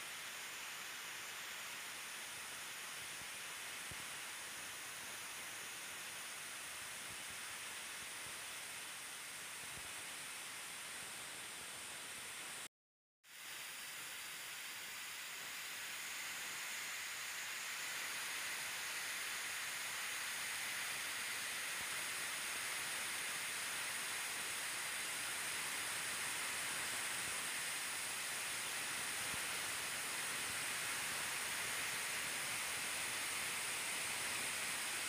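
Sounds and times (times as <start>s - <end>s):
steady hiss: 0.0s - 12.7s, 13.3s - 35.0s.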